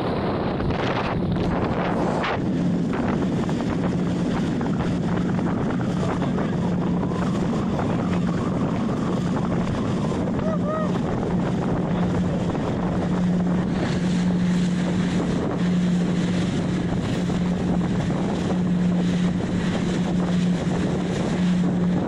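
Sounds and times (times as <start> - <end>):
boat engine hum: 0.0 - 22.0
water rushing past boat: 0.0 - 22.0
wind buffeting microphone: 0.0 - 22.0.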